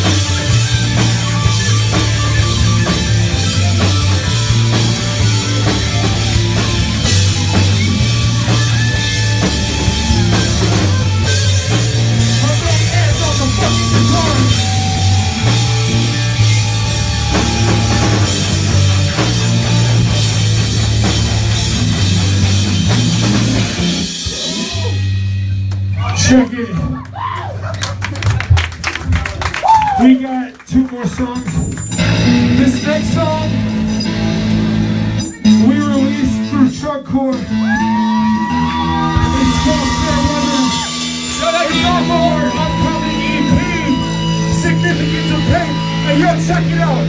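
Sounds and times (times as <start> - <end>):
punk band playing live: 0.0 - 27.1, 27.7 - 30.2, 30.8 - 47.0.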